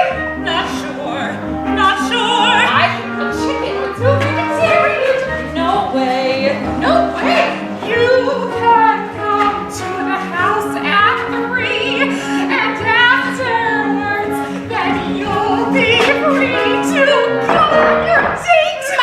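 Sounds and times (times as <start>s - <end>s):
accompaniment chords: 0.0s - 19.0s
tenor singing operatically: 0.0s - 19.0s.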